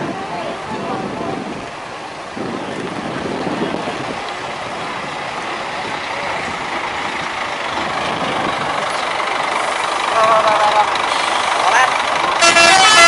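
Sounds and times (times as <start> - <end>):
bus driving past: 0.0 - 13.0.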